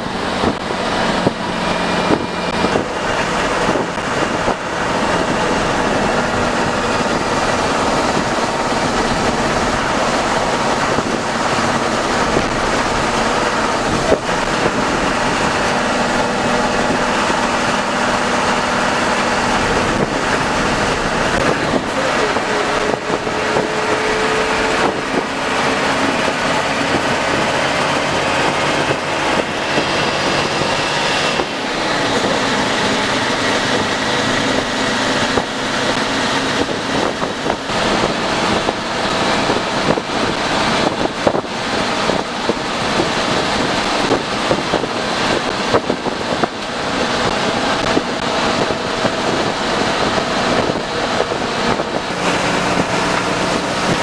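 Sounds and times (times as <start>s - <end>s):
bus engine and road drone: 0.0s - 54.0s.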